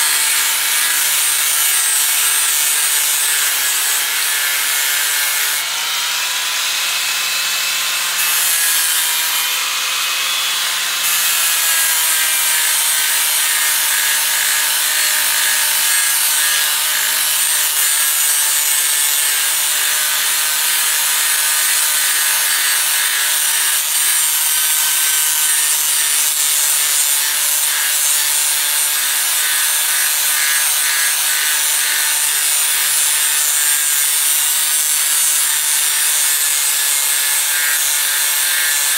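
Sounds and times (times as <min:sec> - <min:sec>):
angle grinder grinding steel: 0:00.0 - 0:38.9.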